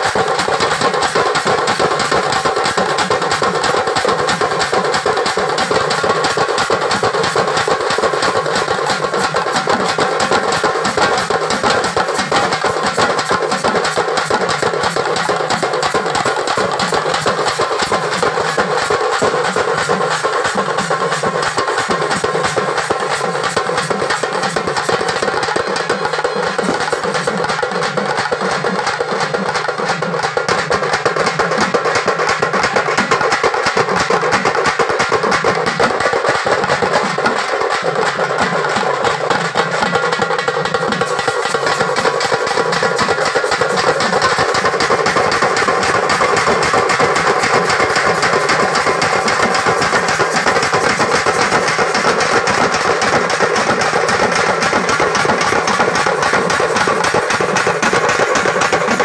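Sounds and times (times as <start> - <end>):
barrel drum: 0.0 - 59.0
frame drums beating fast rhythm: 0.0 - 59.0.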